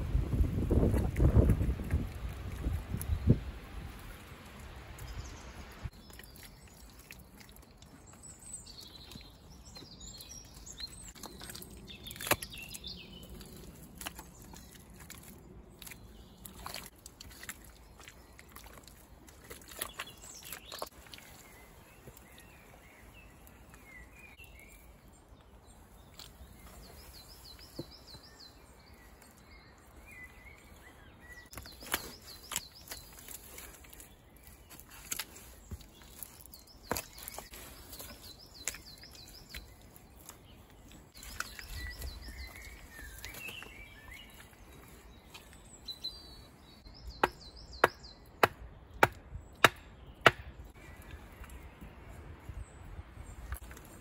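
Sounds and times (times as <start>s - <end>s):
birds chirping and trilling: 4.4s - 54.0s.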